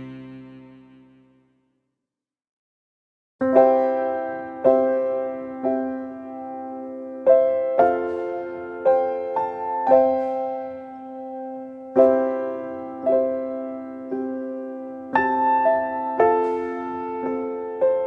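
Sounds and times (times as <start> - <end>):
soft slow piano chords: 0.0 - 1.3, 3.4 - 18.0.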